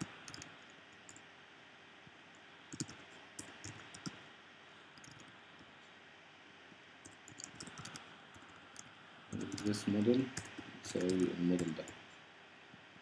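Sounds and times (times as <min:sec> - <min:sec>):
steady faint hiss: 0:00.0 - 0:13.0.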